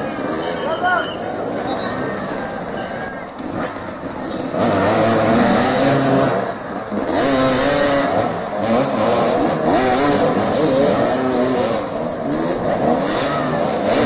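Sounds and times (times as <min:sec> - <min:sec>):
motorcycles revving hard: 0:00.0 - 0:14.0.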